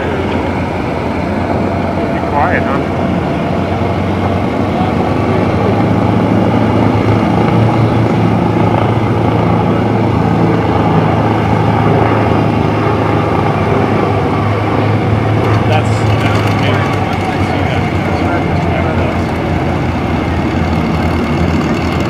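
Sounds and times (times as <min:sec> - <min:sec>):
piston aircraft engines idling: 0:00.0 - 0:22.0.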